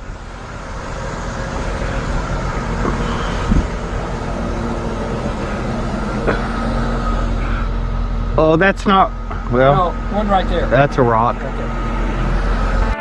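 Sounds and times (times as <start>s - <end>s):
heavy machine engine running: 0.0s - 13.0s.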